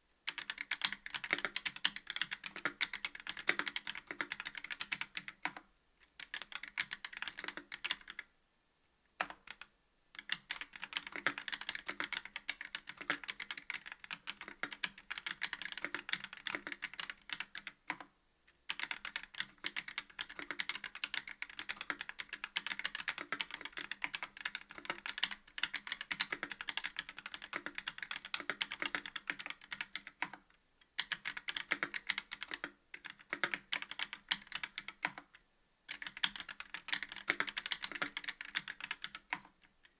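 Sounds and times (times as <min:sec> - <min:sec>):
mechanical keyboard typing: 0:00.3 - 0:08.3, 0:09.2 - 0:18.1, 0:18.7 - 0:39.9.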